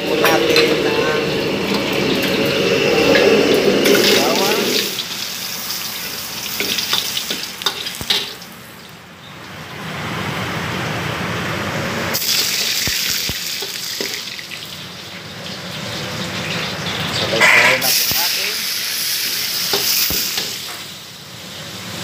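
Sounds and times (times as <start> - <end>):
wok station hissing: 0.0 - 8.8, 12.1 - 22.0.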